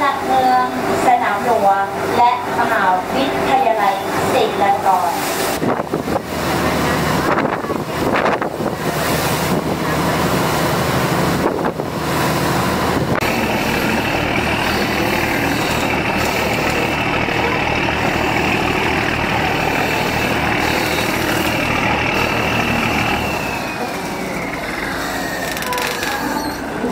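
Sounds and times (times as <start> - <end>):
boat engine idling throb: 0.0 - 26.9
steady high whine: 0.1 - 26.9
water rushing past hull: 0.2 - 26.9.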